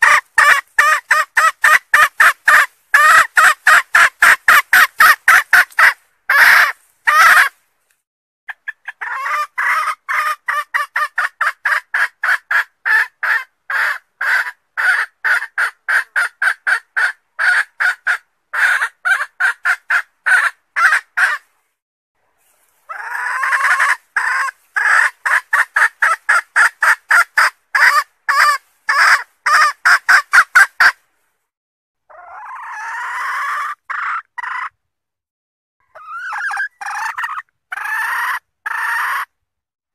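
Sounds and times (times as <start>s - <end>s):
junglefowl hen cackling: 0.0s - 7.6s, 8.5s - 21.4s, 22.7s - 31.0s, 32.1s - 34.8s, 35.8s - 39.3s.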